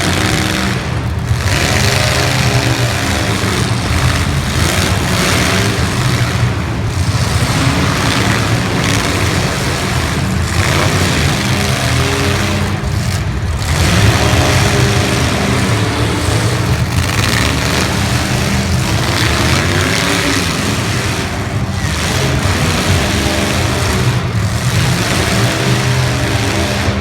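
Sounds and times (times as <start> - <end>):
car engines running loudly: 0.0 - 27.0.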